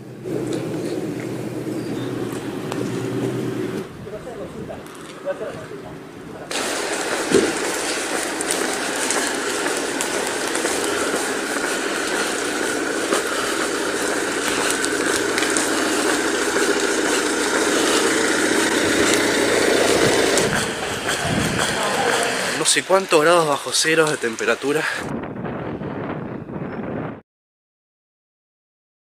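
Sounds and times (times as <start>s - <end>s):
wind and rain in a storm: 0.0s - 27.2s.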